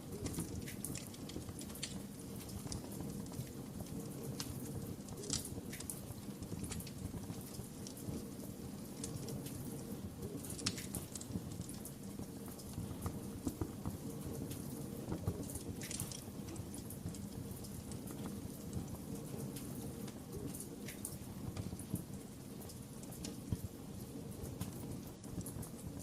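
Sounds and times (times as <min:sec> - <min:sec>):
fire burning rumble: 0:00.0 - 0:26.0
fire popping and snapping: 0:00.0 - 0:26.0.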